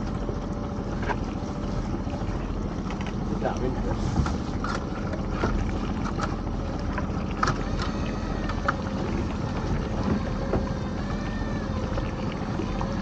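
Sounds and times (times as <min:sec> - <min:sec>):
boat motor idling: 0:00.0 - 0:13.0
sea noise: 0:00.0 - 0:13.0
wind: 0:00.0 - 0:13.0.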